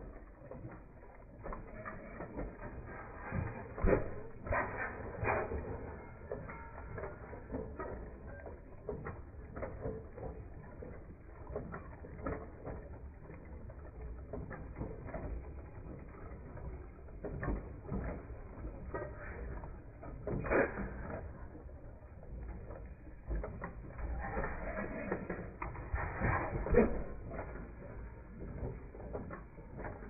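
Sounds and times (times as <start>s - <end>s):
machinery clicking and clattering: 0.0s - 30.0s.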